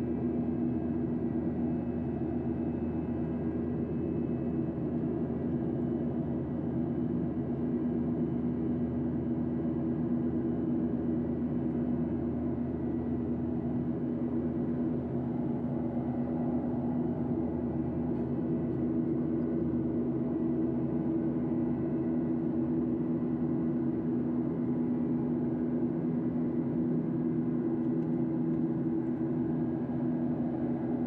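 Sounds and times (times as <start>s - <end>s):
aircraft cabin engine drone: 0.0s - 31.0s.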